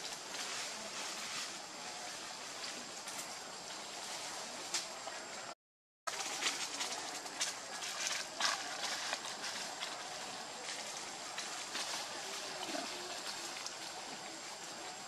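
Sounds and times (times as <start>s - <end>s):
dry leaves crackling: 0.0s - 5.0s, 6.1s - 15.0s
outdoor background hiss: 0.0s - 15.0s.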